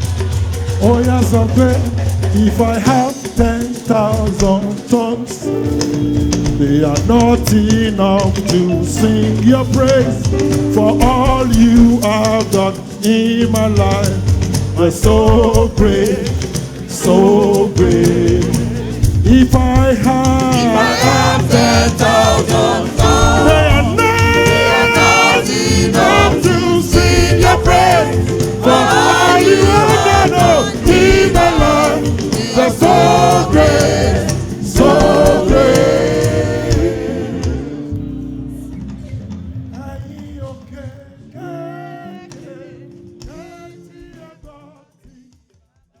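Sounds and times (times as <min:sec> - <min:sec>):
gospel choir singing: 0:00.0 - 0:38.9, 0:40.6 - 0:45.1
instrumental backing: 0:00.0 - 0:44.7.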